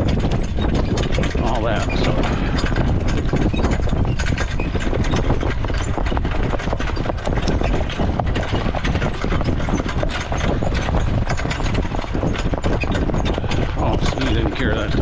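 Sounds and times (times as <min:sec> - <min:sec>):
horse hoofbeats clip-clopping: 0:00.0 - 0:15.0
low rumble: 0:00.0 - 0:15.0.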